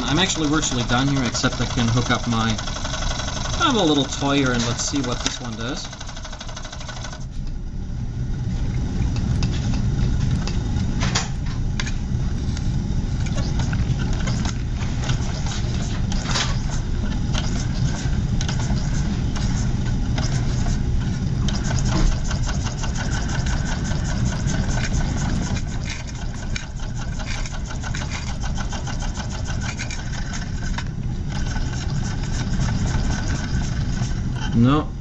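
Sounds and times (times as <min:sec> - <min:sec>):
low hum: 0:00.0 - 0:35.0.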